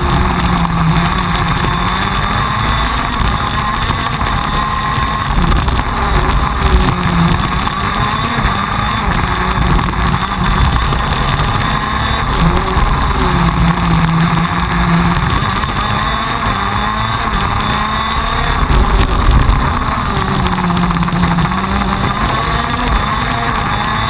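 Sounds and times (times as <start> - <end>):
kart engine racing: 0.0 - 24.0.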